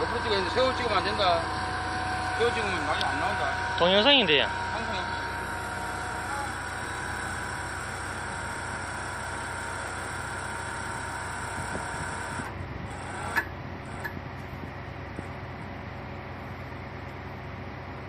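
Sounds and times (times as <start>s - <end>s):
thin whine: 0.0s - 15.7s
machine engine running: 0.0s - 18.0s.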